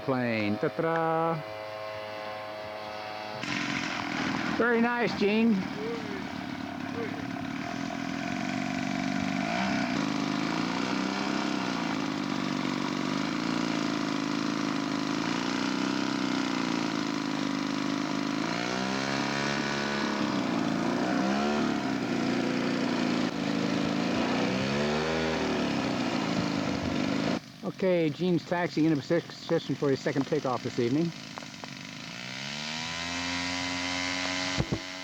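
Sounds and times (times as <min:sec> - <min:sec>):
model airplane engine running: 0:00.0 - 0:35.0.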